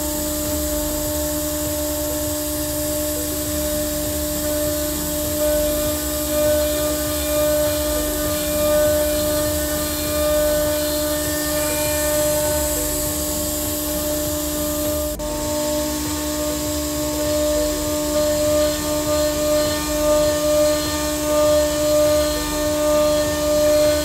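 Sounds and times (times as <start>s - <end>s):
cnc router machine drone: 0.0s - 24.0s
vacuum pump rumble: 0.0s - 24.0s.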